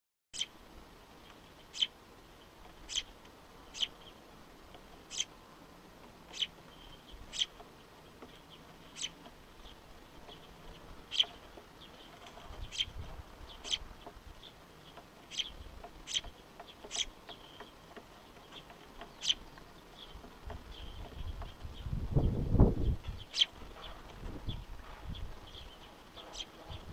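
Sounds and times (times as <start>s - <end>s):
small bird high-pitched calls: 0.4s - 0.6s, 1.2s - 4.2s, 5.0s - 5.4s, 6.3s - 26.9s.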